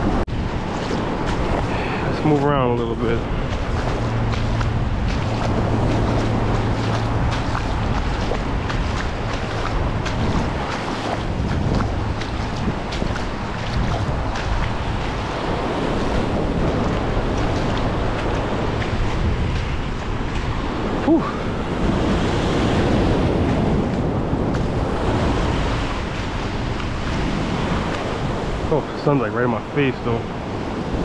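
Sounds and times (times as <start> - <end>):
surf breaking over reef: 0.0 - 31.0
water sloshing around legs: 0.0 - 31.0
wind buffeting microphone: 0.0 - 31.0.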